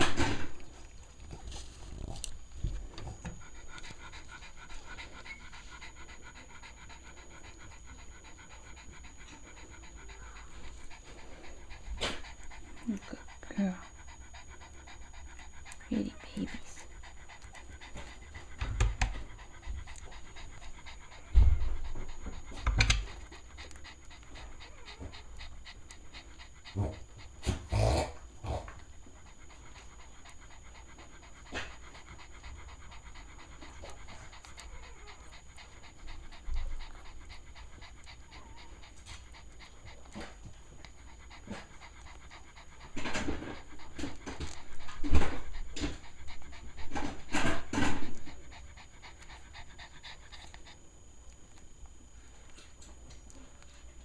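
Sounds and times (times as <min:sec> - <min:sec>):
dog panting: 0:00.0 - 0:54.0.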